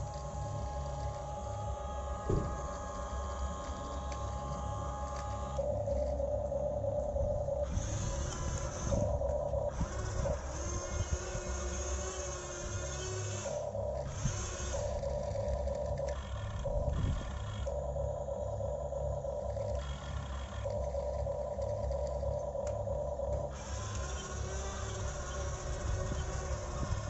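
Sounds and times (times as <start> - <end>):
electric motors and gears whining: 0.0 - 27.0.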